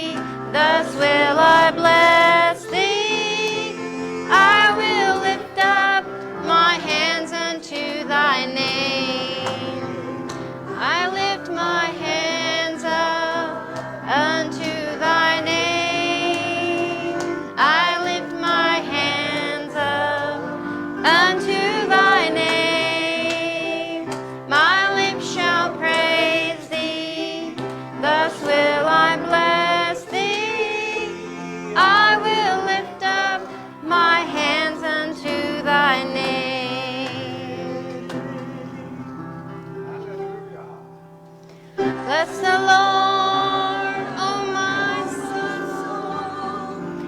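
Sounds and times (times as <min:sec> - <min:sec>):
woman leading gospel singing: 0:00.0 - 0:39.4, 0:41.8 - 0:47.0
instrumental backing: 0:00.0 - 0:47.0.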